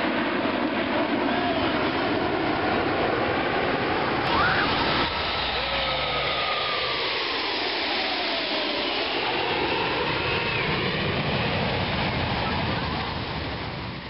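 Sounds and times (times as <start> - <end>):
jet plane flying past: 0.0 - 14.0.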